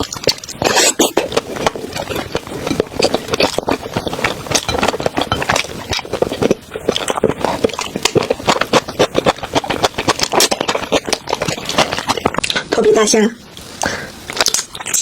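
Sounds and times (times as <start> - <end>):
person chewing food: 0.0 - 12.8, 13.5 - 15.0.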